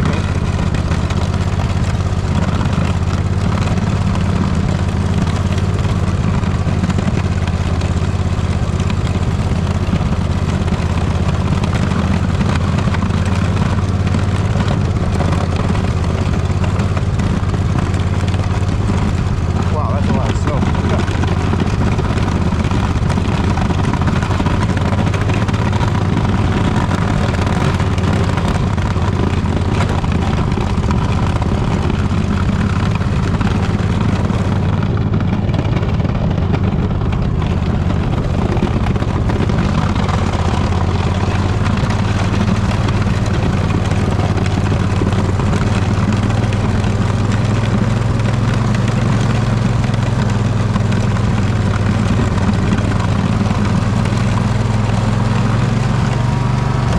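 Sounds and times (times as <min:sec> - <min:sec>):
riding mower engine running: 0:00.0 - 0:56.9.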